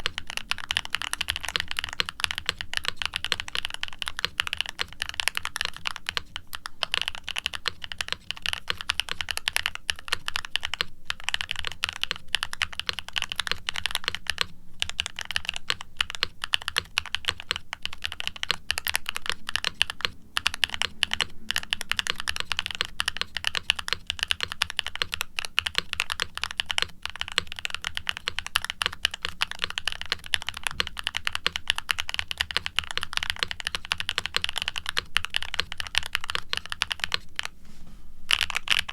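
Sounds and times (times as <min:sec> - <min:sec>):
fast typing on mechanical keyboard: 0:00.0 - 0:37.6, 0:38.3 - 0:38.9.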